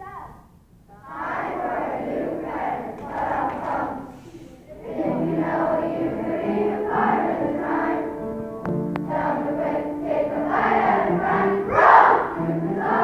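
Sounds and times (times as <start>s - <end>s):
children's choir singing: 0.9s - 13.0s.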